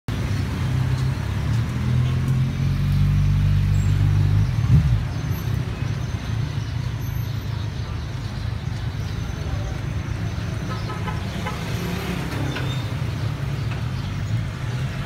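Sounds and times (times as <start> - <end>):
low road rumble: 0.1 - 15.0.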